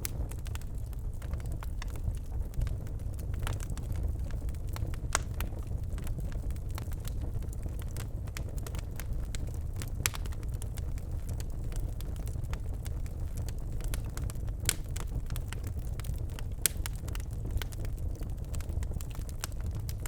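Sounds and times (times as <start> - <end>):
fire rumbling: 0.0 - 20.0
logs crackling and popping: 0.0 - 20.0.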